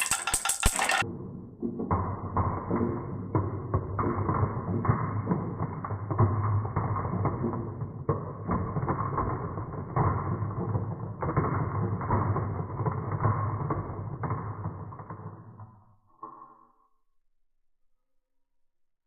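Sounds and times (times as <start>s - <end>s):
marbles rolling down wooden run: 0.0s - 16.6s.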